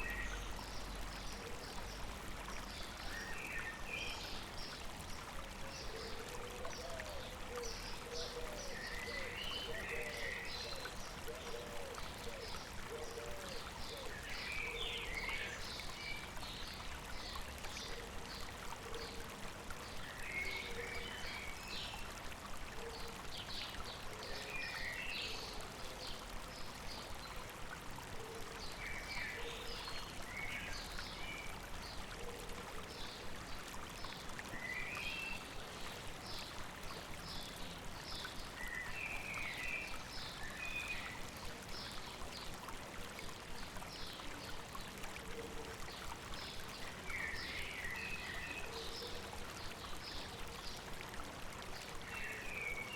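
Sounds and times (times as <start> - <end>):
stream water running: 0.0 - 52.9.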